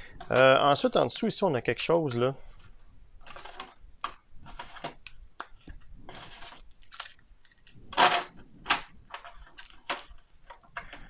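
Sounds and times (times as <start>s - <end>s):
board game pieces rustling: 2.0s - 11.0s.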